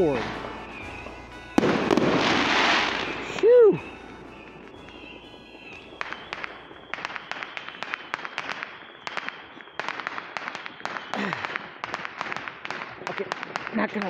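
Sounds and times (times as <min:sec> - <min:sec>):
distant fireworks crackling: 0:00.0 - 0:14.0.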